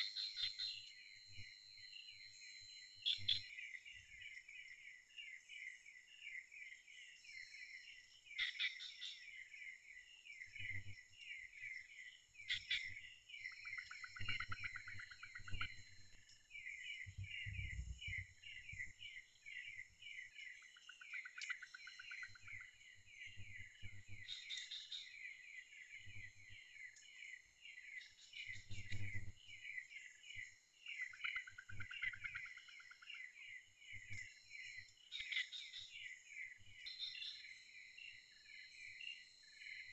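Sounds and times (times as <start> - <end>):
bird calls: 0.0 - 1.5, 3.0 - 38.2
insects chirping: 0.0 - 39.9.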